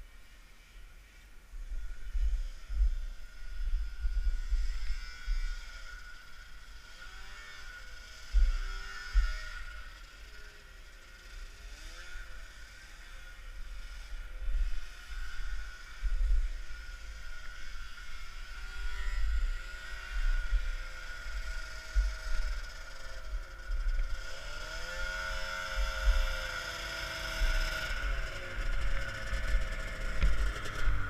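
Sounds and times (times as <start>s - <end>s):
snowmobile engines running: 0.0s - 31.0s.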